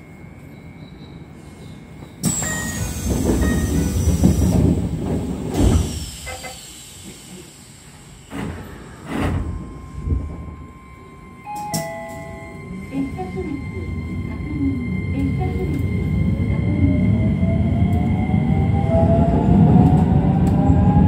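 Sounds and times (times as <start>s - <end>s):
wheel and rail noise with whine: 0.0s - 21.0s.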